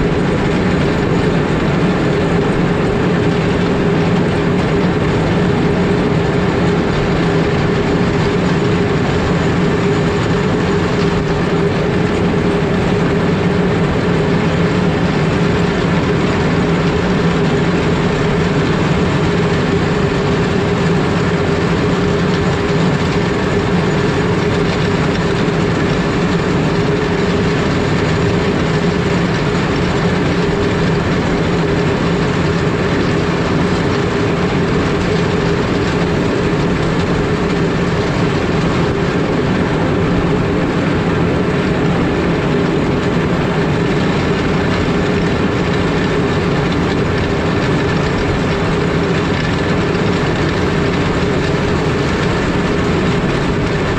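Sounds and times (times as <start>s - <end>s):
motor grader engine rumble: 0.0s - 53.9s
rattling clatter: 0.0s - 53.9s
steady low hum: 0.0s - 53.9s.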